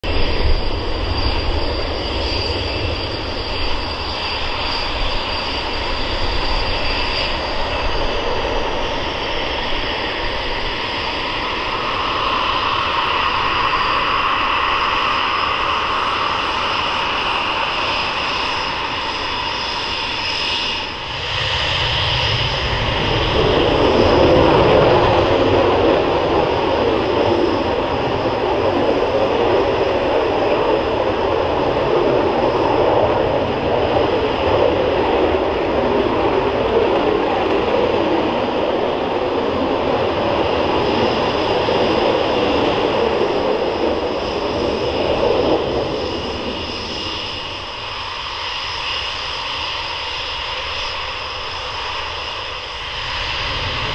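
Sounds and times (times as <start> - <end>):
jet engine rumble with turbine whine: 0.0 - 53.9.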